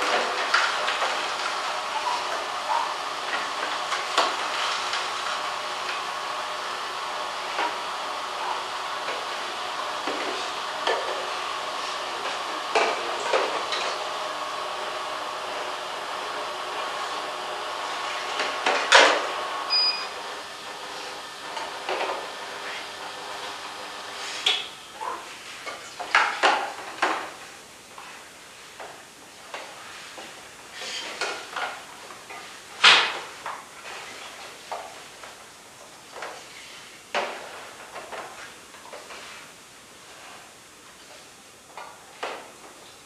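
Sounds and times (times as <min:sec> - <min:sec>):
juicer motors humming: 0:00.0 - 0:43.0.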